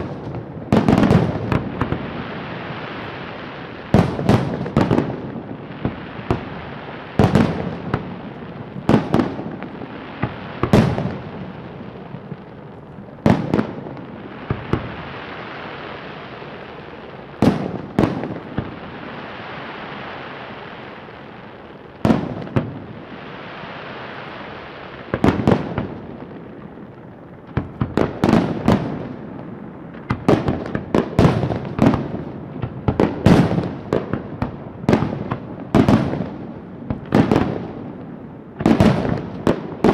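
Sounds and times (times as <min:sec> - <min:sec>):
fireworks bangs: 0:00.0 - 0:39.9
fireworks hiss: 0:00.0 - 0:39.9.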